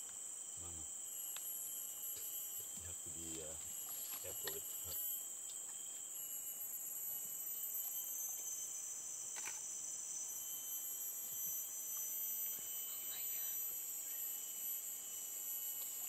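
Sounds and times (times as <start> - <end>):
insect chorus buzzing: 0.0 - 16.0.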